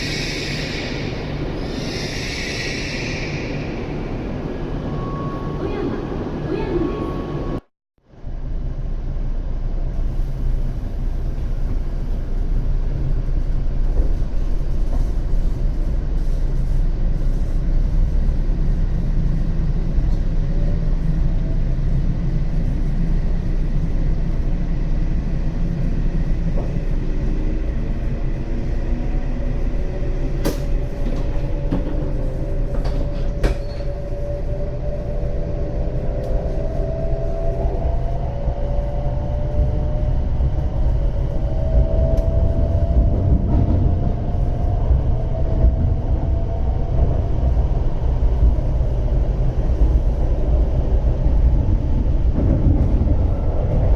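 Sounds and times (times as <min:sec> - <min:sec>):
train heavy rumble: 0:08.3 - 0:53.9.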